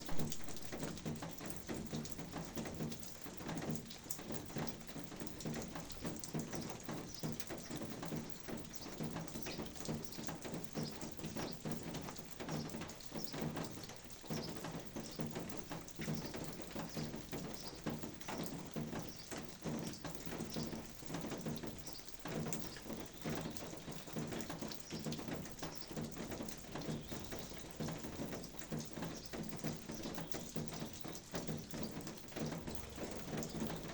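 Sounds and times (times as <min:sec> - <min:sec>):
raindrops tapping on surfaces: 0:00.0 - 0:33.9
steady rain falling: 0:00.0 - 0:33.9.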